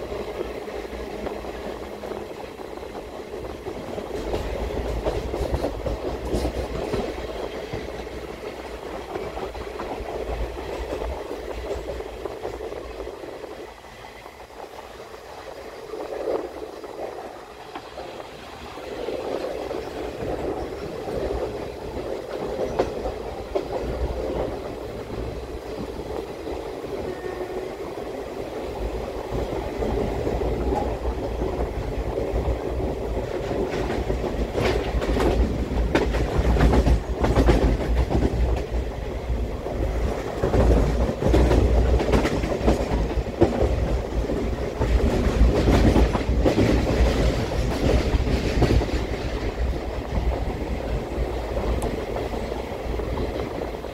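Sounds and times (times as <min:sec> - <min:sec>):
train coaches rumbling: 0:00.0 - 0:53.9
wheels clacking over rail joints: 0:02.9 - 0:13.0, 0:16.1 - 0:27.6, 0:28.8 - 0:53.9.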